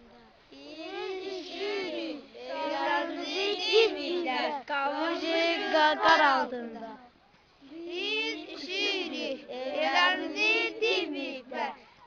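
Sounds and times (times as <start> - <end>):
boys singing in chorus: 0.6 - 7.0, 7.7 - 11.8.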